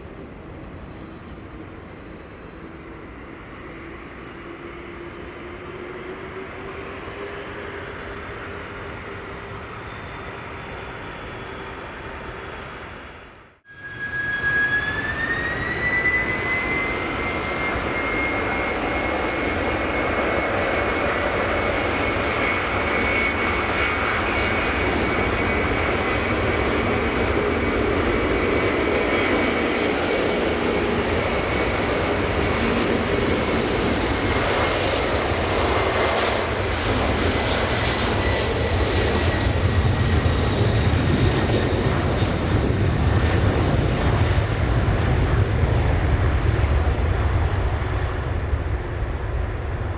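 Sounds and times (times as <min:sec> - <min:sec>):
jet engines at takeoff power: 0:00.0 - 0:49.9
rising engine whine: 0:00.5 - 0:49.9.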